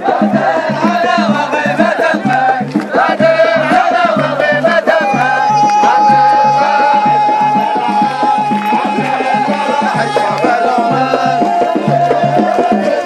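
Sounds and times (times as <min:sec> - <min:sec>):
low drum beat: 0:00.0 - 0:13.0
voices singing and chanting: 0:00.0 - 0:13.0.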